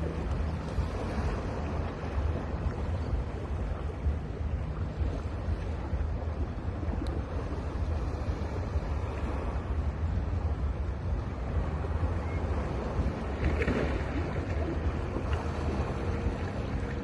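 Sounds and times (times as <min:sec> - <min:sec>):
waves breaking on beach: 0:00.0 - 0:17.0
wind rumble on microphone: 0:00.0 - 0:17.0.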